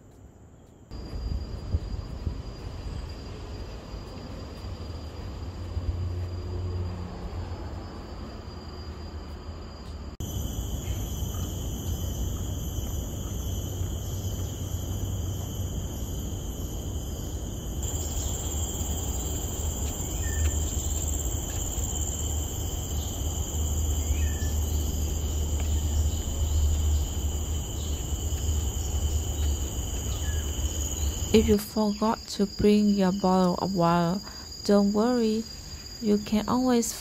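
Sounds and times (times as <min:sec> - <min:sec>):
shrill insect chorus: 0:00.9 - 0:37.0.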